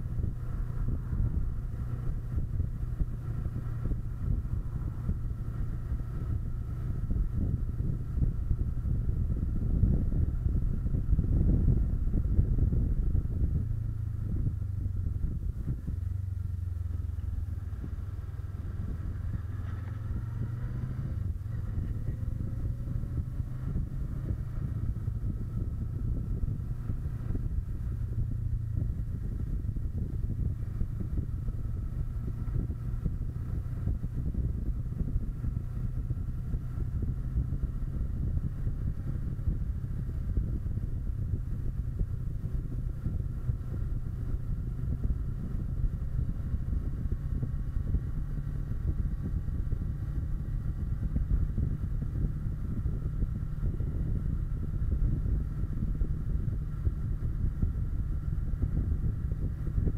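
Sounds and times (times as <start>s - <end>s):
motorcycle engine running faintly: 0.0s - 59.9s
wind buffeting microphone: 0.0s - 59.9s.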